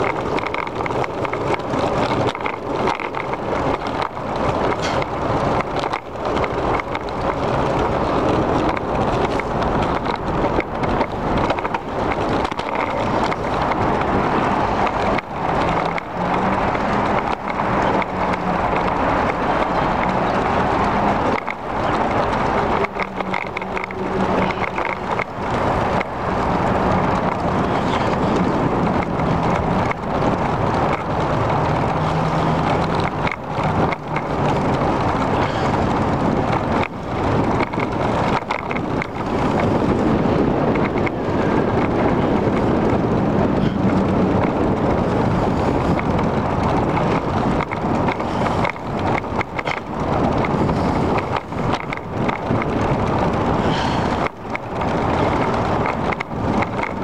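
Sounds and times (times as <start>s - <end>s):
bicycle tyre and road rumble: 0.0s - 57.0s
wind on microphone: 0.0s - 57.0s.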